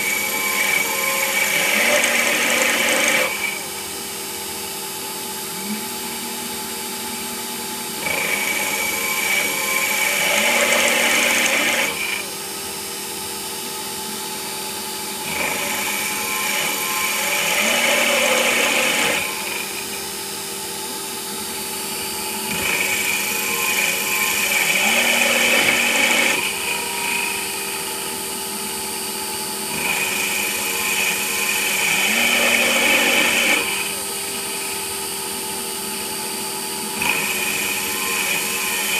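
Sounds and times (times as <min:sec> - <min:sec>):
lathe cutting with rising whine: 0:00.0 - 0:38.9.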